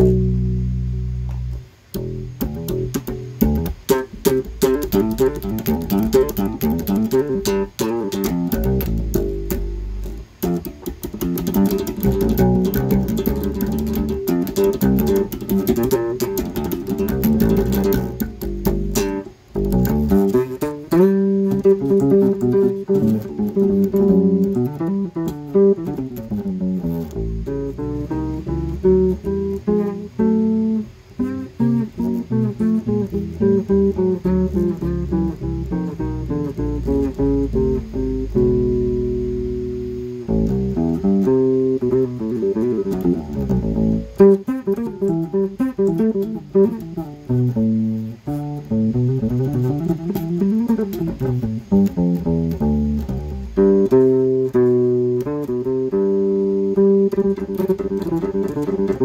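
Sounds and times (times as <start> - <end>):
electric bass guitar plucked: 0.0 - 59.0.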